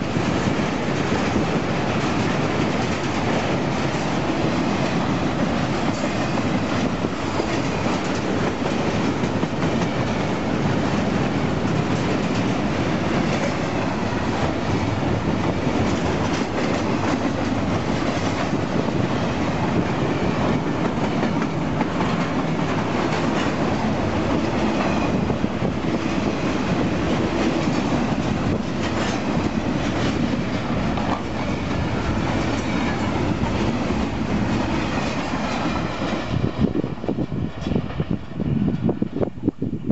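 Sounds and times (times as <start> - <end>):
wheels clacking over rail joints: 0.0 - 38.2
steel wheels rumbling on rail: 0.0 - 39.9.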